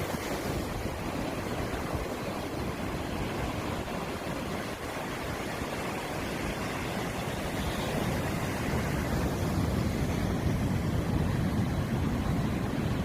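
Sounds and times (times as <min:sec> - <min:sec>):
sea surf washing: 0:00.0 - 0:13.0
wind buffeting microphone: 0:00.0 - 0:13.0.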